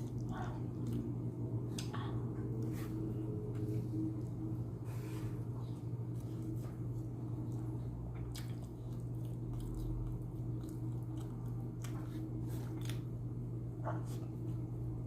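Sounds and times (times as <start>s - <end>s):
person chewing food: 0.0s - 3.3s, 5.6s - 14.8s
steady low hum: 0.0s - 15.0s.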